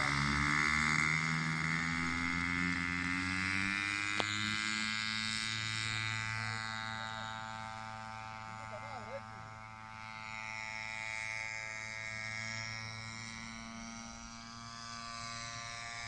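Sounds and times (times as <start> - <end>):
small engine buzzing: 0.0 - 16.0.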